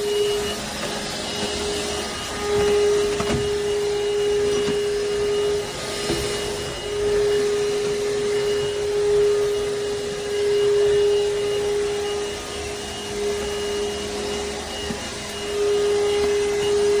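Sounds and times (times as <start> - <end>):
stick vacuum running: 0.0 - 17.0.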